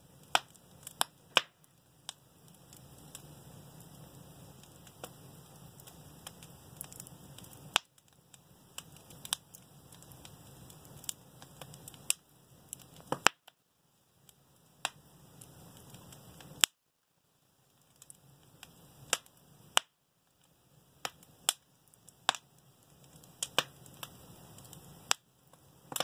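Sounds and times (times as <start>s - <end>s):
faint low hiss: 0.0s - 26.0s
fire crackling and popping: 0.0s - 26.0s.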